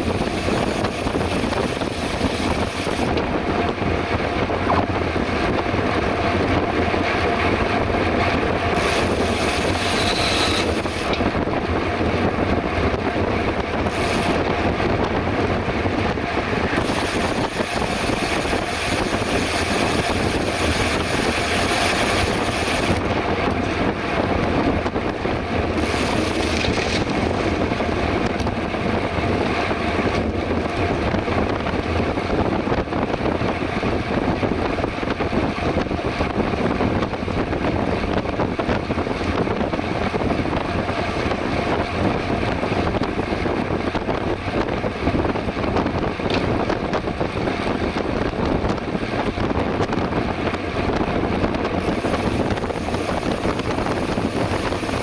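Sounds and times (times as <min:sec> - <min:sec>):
road and tyre rumble: 0:00.0 - 0:55.0
wind rushing over microphone: 0:00.0 - 0:55.0.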